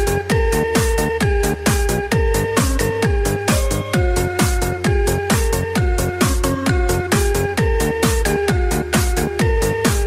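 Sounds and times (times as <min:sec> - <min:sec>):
electronic dance music: 0:00.0 - 0:10.0
kick drum: 0:00.0 - 0:10.0.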